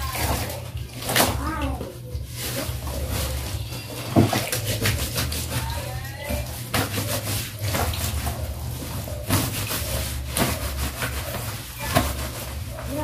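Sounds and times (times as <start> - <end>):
water sloshing: 0.0 - 13.0
wet fabric rubbing and squelching: 0.0 - 13.0.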